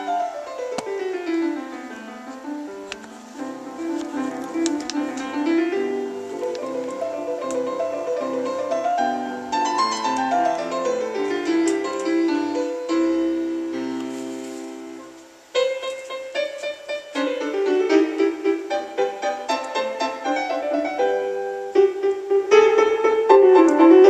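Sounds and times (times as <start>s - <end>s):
piano music through radio speaker: 0.0s - 24.0s.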